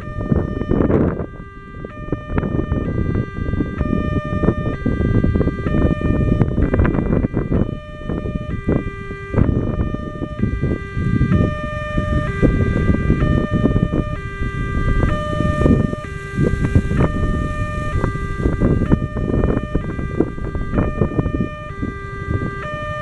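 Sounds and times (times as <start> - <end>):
level-crossing alarm melody: 0.0 - 23.0
low rumble: 0.0 - 23.0.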